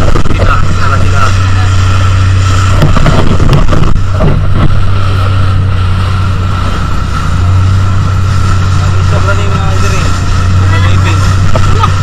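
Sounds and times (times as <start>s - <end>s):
motorboat engine running: 0.0s - 12.0s
wind on microphone: 0.0s - 12.0s.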